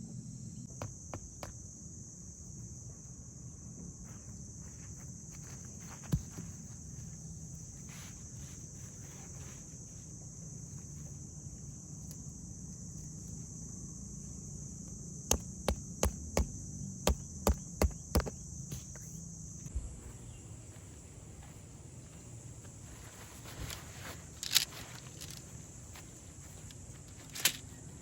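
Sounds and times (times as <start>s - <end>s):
insect chirring: 0.0s - 28.0s
low background hum: 0.0s - 28.0s.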